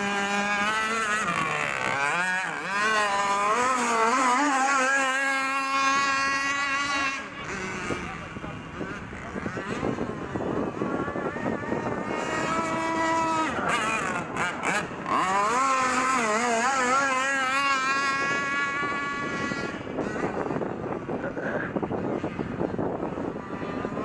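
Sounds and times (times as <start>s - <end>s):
small two-stroke boat engine: 0.0s - 24.0s.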